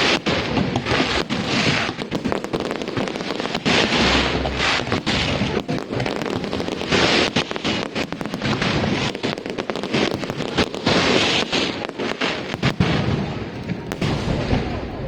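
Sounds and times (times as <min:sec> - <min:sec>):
fireworks crackling pops: 0:00.0 - 0:15.0
loud firework bursts: 0:00.0 - 0:15.0.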